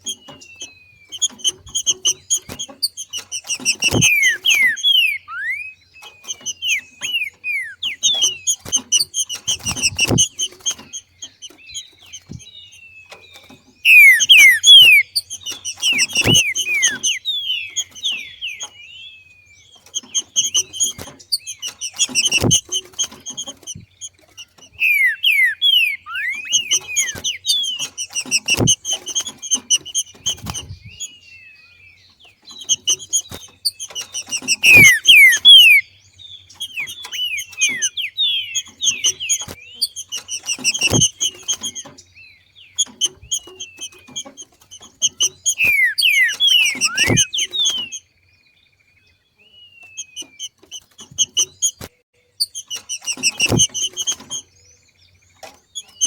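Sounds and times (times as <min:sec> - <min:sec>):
bird giving downward-sliding chirps: 0:00.0 - 0:18.8, 0:19.7 - 0:31.2, 0:32.6 - 0:42.0, 0:42.7 - 0:48.1.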